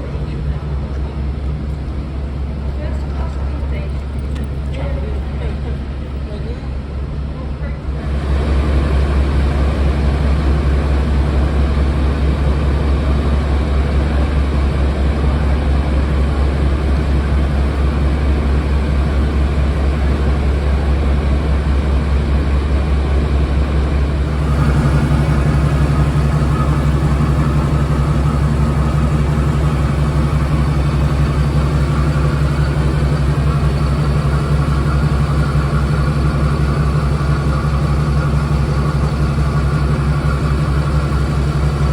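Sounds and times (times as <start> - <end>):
diesel locomotive idling: 0.0 - 41.9.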